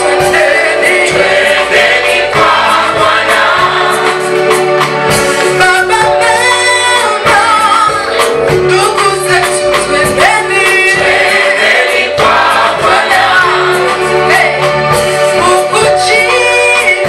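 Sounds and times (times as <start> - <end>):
choir singing gospel: 0.0 - 8.2, 9.3 - 17.0
instrumental backing with beat: 0.0 - 17.0.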